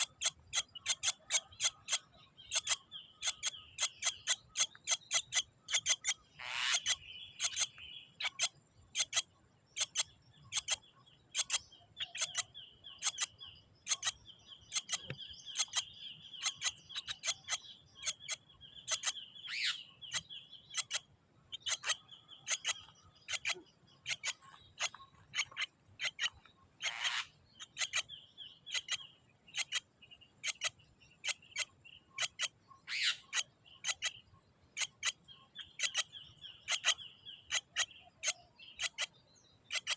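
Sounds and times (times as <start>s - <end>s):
bird chirping sharply: 0.0s - 39.9s.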